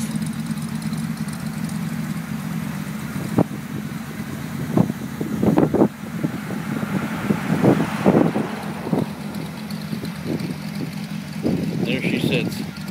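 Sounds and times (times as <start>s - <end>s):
car engine idling: 0.0s - 12.9s
engine knocks: 0.0s - 12.9s.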